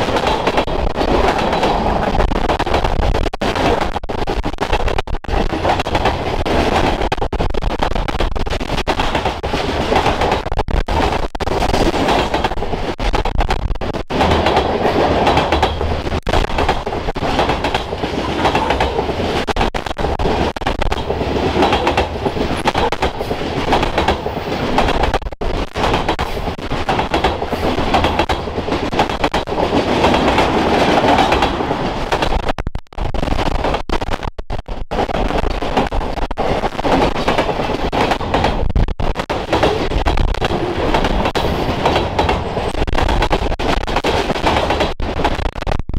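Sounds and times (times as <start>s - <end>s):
wheels clacking over rail joints: 0.0s - 32.6s, 34.7s - 45.7s
train wheels rumbling on rail: 0.0s - 45.9s.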